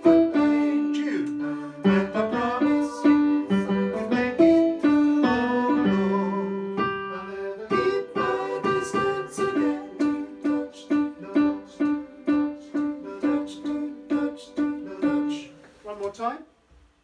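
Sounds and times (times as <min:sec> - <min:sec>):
held melody line: 0:00.0 - 0:15.6.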